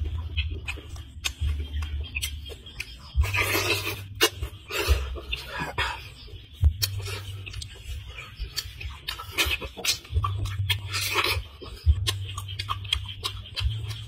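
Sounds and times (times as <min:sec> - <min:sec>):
man chewing and lip-smacking: 0:00.0 - 0:14.0.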